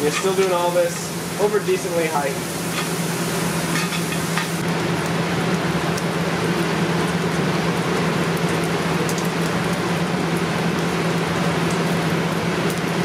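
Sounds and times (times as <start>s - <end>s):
bacon sizzling and popping: 0.0s - 13.0s.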